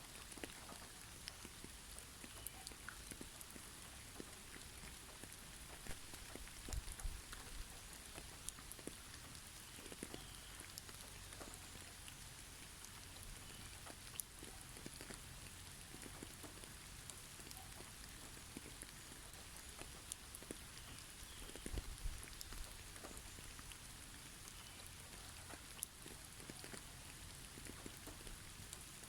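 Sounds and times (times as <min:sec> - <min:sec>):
soft snowfall hiss: 0:00.0 - 0:29.0.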